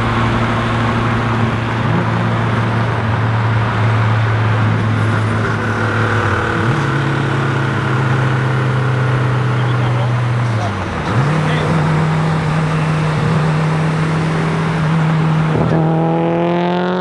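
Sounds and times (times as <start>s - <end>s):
car engine drone from cabin: 0.0s - 17.0s.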